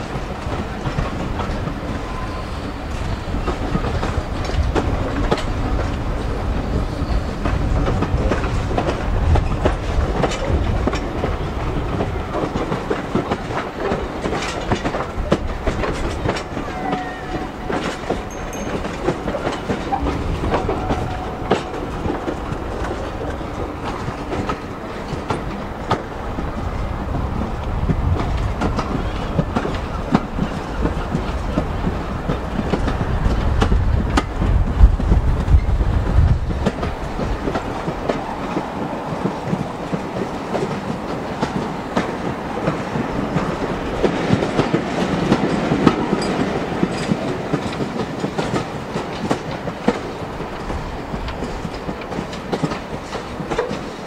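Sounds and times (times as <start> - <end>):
train rumble: 0.0 - 54.0
train wheels clattering over rail joints: 0.0 - 54.0.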